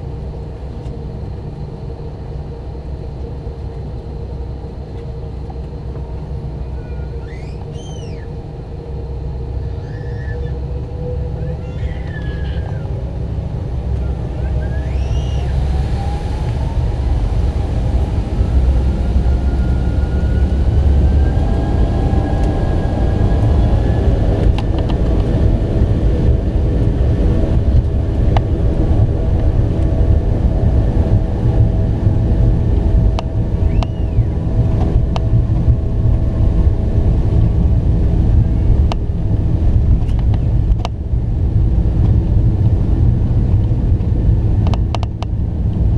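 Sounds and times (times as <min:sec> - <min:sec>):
jet engines whining: 0:00.0 - 0:45.9
loud rumble: 0:00.0 - 0:45.9.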